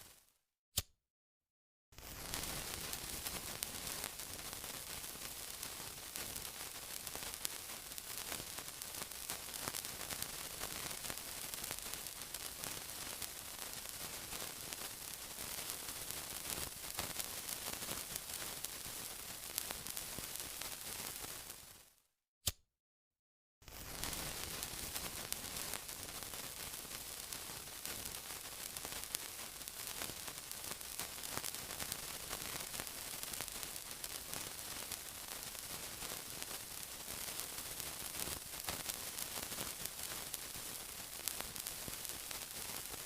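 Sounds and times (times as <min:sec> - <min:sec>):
sizzling with crackling pops: 0:00.0 - 0:00.9, 0:02.0 - 0:22.0, 0:23.6 - 0:43.0.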